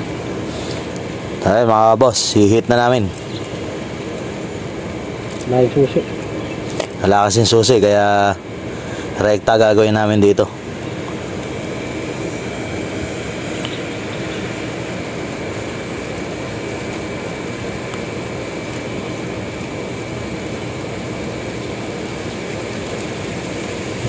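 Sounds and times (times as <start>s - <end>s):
engine droning with high whine: 0.0s - 24.0s.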